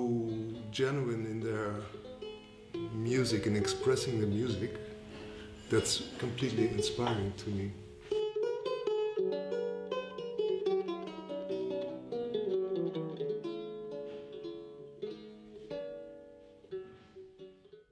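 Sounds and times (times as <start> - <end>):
plucked string instrument melody: 0.0 - 17.9.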